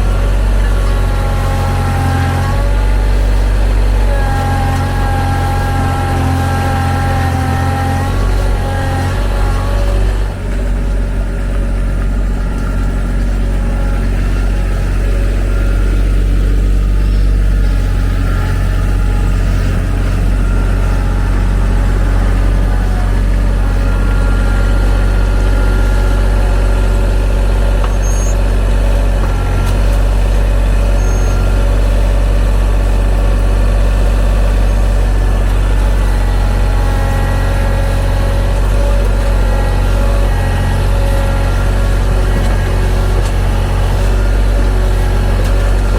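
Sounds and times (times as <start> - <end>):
tractor diesel engine droning: 0.0 - 45.9.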